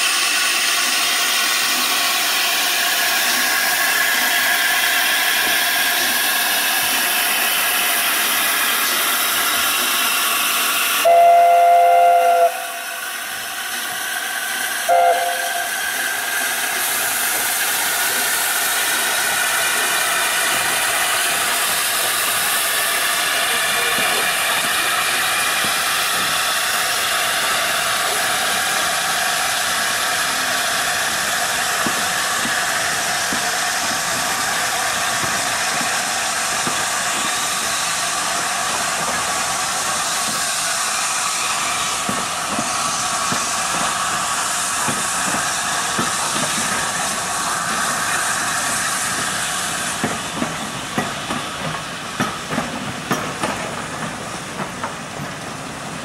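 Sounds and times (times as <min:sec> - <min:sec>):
steam train rolling past: 0:00.0 - 0:56.0.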